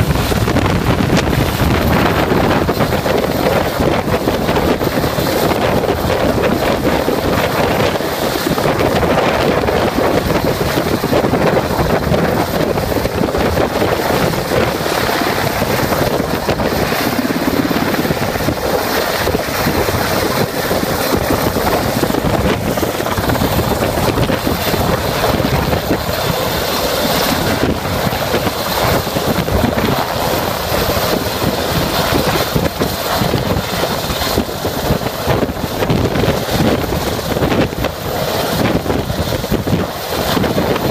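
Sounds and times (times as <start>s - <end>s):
helicopter rotor and engine: 0.0s - 40.9s
wind buffeting microphone: 0.0s - 40.9s.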